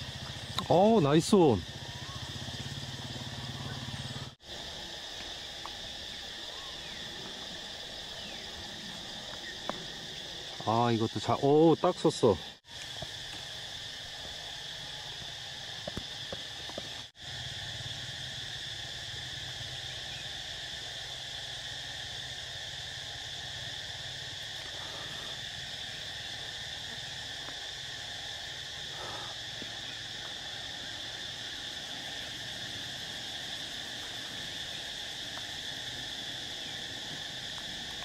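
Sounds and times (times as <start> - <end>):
insects buzzing: 0.0 - 38.0.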